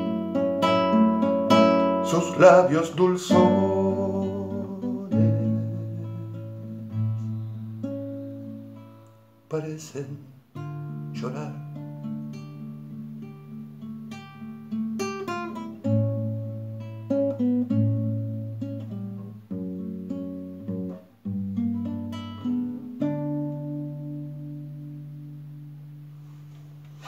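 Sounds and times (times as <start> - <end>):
classical guitar playing: 0.0 - 27.0.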